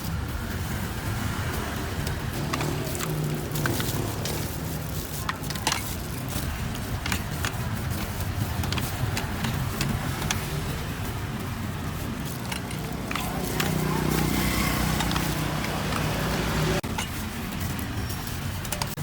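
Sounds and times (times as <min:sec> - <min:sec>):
street traffic rumble: 0:00.0 - 0:19.0
sharp clicks and knocks: 0:01.9 - 0:19.0.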